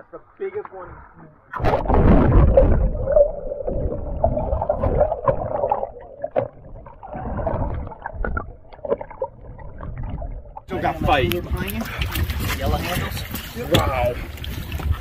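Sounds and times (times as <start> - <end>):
muffled underwater sloshing: 0.7 - 15.0
bubbles: 1.5 - 15.0.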